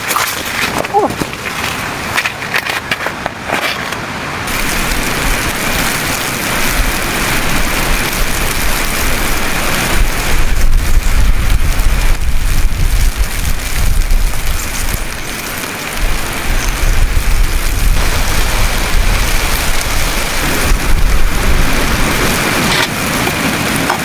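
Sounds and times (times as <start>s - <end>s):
low rumble of wind: 0.0s - 24.0s
hiss of falling snow: 4.5s - 24.0s.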